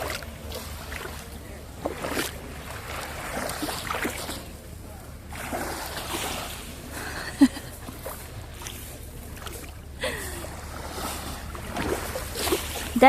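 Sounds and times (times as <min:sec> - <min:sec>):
sea water washing over pebbles: 0:00.0 - 0:04.6, 0:05.2 - 0:13.0.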